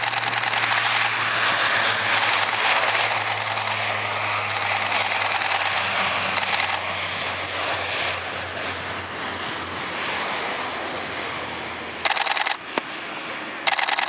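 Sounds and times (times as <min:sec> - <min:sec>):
turboprop aircraft roaring: 0:00.0 - 0:14.0.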